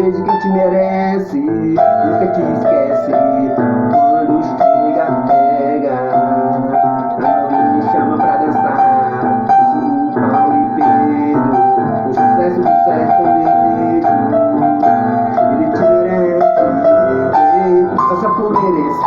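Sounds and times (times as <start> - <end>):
backing music: 0.0 - 19.0
keyboard playing melody: 0.0 - 19.0.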